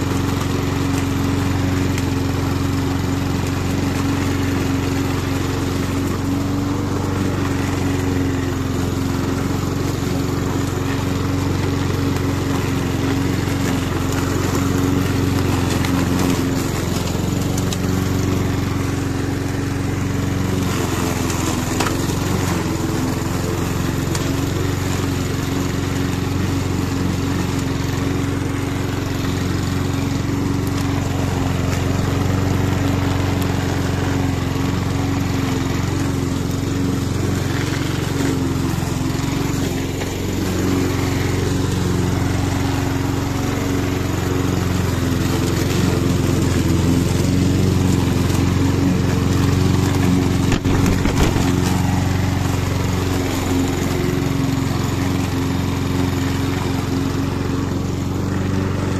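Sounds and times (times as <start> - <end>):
lawn mower engine running: 0.0 - 58.9.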